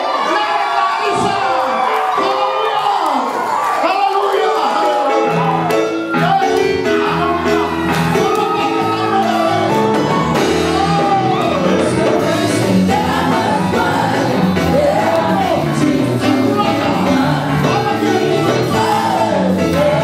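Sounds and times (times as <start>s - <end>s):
gospel band playing: 0.0s - 20.0s.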